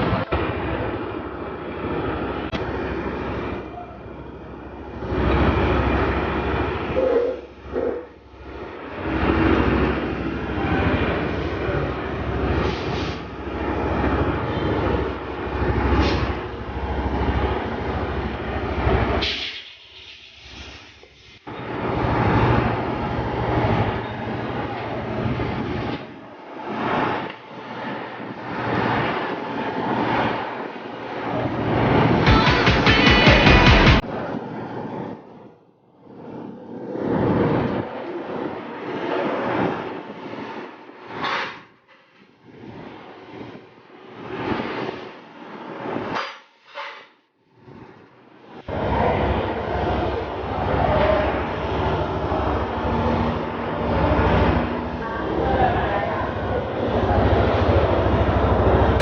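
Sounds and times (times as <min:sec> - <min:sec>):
motorcycle engine and road noise: 0:00.0 - 0:19.3, 0:21.5 - 0:46.3, 0:47.4 - 0:59.0.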